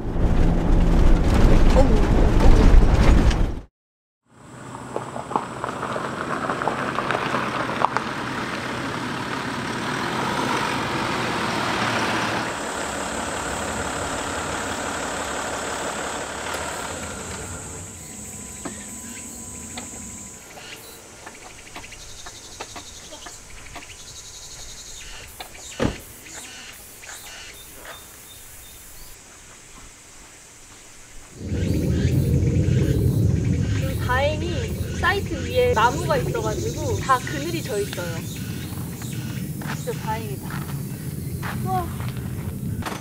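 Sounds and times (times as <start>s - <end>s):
car engine and road noise: 0.0s - 3.6s, 4.2s - 29.2s, 31.3s - 43.0s.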